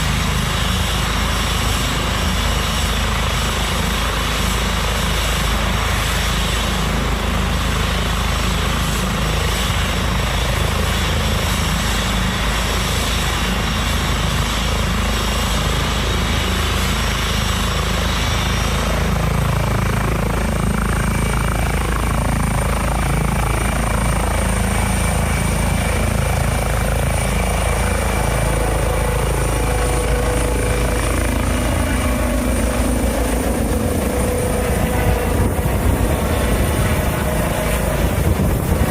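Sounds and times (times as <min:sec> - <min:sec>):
helicopter engines and rotor: 0:00.0 - 0:38.9
turbine whine: 0:00.0 - 0:38.9.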